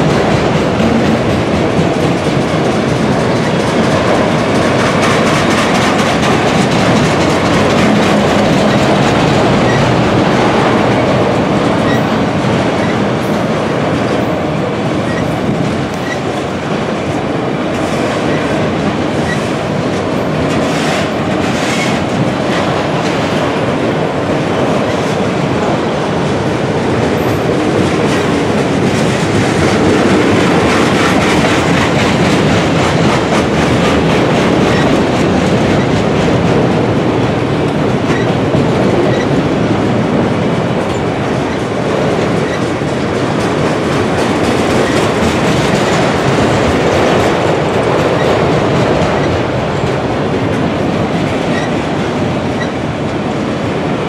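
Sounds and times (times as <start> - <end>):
freight car wheels clacking: 0.0 - 52.8.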